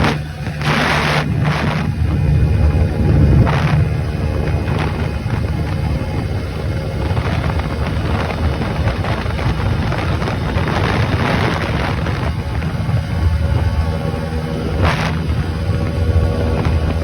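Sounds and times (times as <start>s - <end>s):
motorcycle engine running hard: 0.0s - 17.0s
wind buffeting microphone: 0.0s - 17.0s.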